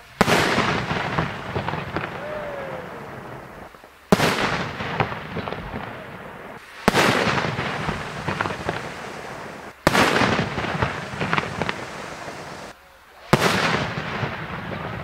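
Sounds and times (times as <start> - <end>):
firework shells bursting: 0.0 - 12.8
firework crackling: 0.0 - 15.0.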